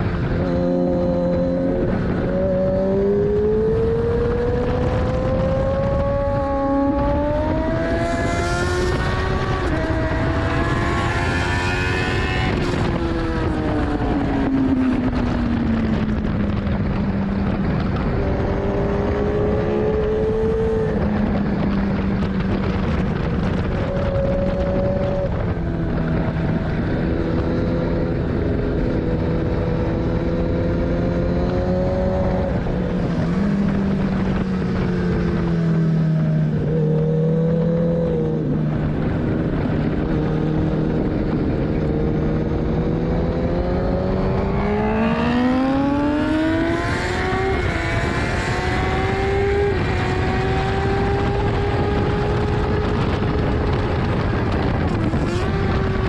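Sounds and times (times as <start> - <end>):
motorcycle engine running at speed: 0.0 - 56.0
wind rush on microphone: 0.0 - 56.0.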